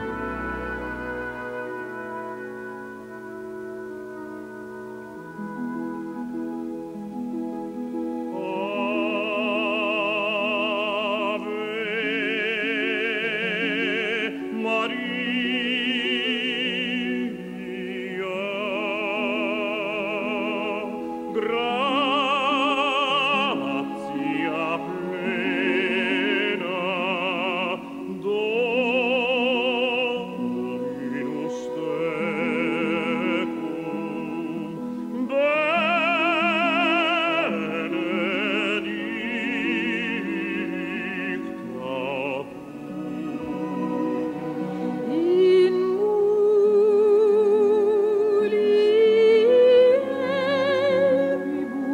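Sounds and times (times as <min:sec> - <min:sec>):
operatic singing: 0:00.0 - 0:06.1, 0:07.1 - 0:51.9
sustained accompaniment: 0:00.0 - 0:51.9.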